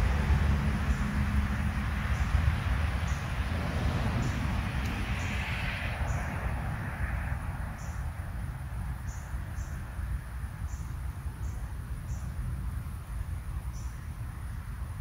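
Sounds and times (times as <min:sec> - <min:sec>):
passing vehicle hiss: 0:00.0 - 0:15.0
steady low rumble: 0:00.0 - 0:15.0
insect chirps: 0:00.4 - 0:15.0.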